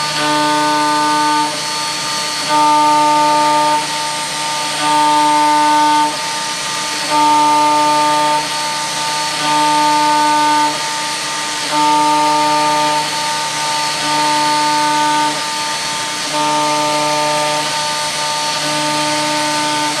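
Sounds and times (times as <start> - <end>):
milling machine hiss: 0.0 - 20.0
pitched machine whine: 0.0 - 20.0.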